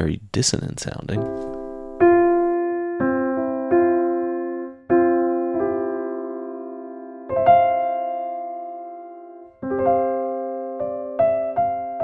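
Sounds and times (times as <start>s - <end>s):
electric piano tones: 1.2s - 12.0s.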